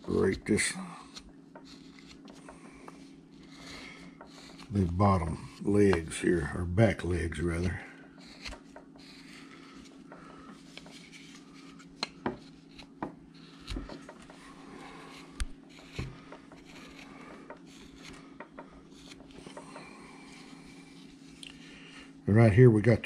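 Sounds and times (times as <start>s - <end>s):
carving tool scraping wood: 0.0s - 21.4s.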